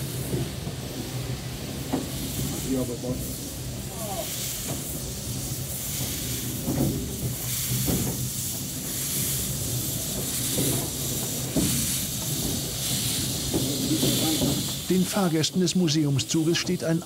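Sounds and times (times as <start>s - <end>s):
soft exhaust puffs: 0.0s - 17.0s
steam locomotive hissing steam: 0.0s - 17.0s.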